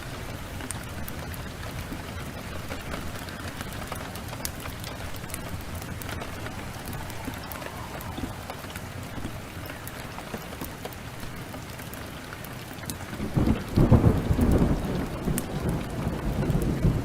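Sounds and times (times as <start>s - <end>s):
heavy rain: 0.0s - 17.0s
wood fire crackling: 0.0s - 17.0s.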